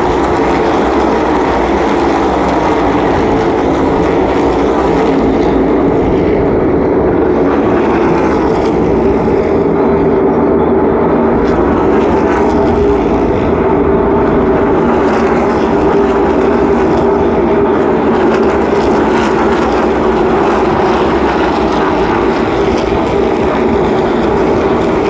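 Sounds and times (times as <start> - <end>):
race car engines droning: 0.0 - 25.0.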